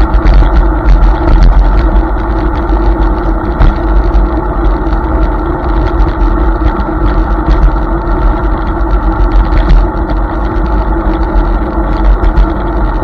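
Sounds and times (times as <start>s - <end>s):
electric scooter rumble: 0.0s - 13.0s
wind noise on microphone: 0.0s - 13.0s
small clicks and rattles: 0.1s - 13.0s.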